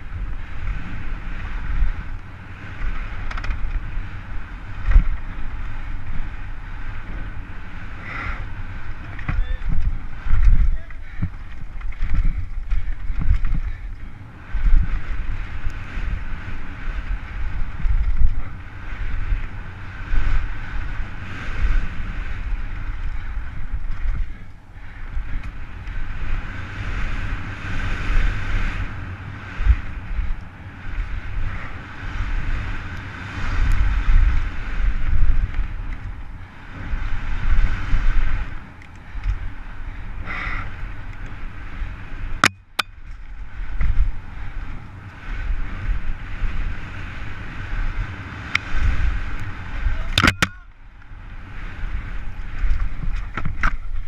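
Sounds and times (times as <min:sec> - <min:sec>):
bike rumbling and rattling: 0:00.0 - 0:54.0
wind rushing over microphone: 0:00.0 - 0:54.0.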